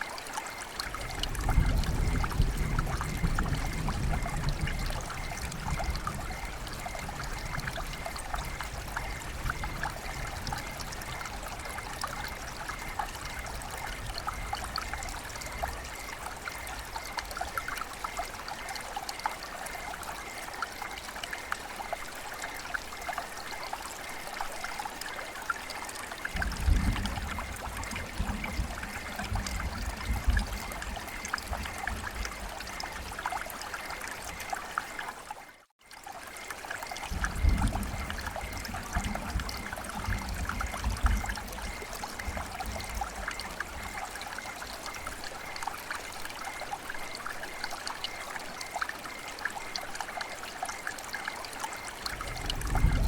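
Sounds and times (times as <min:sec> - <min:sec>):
rain falling: 0:00.0 - 0:53.0
trickling running water: 0:00.0 - 0:53.0.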